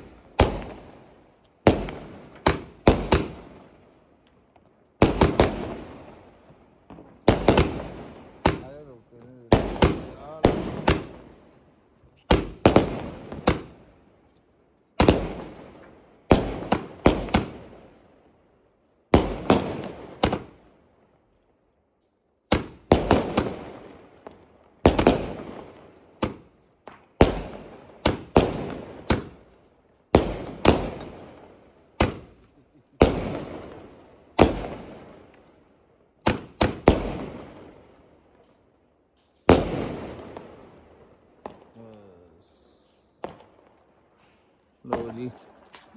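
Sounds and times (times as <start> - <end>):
fireworks bangs: 0.0 - 3.9, 4.5 - 11.5, 12.2 - 14.0, 15.0 - 18.1, 19.1 - 20.7, 22.5 - 45.9.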